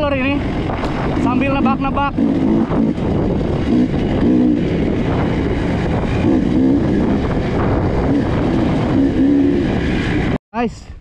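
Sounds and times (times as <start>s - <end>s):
dirt bike engine running: 0.0s - 10.4s
wind noise on microphone: 0.0s - 11.0s.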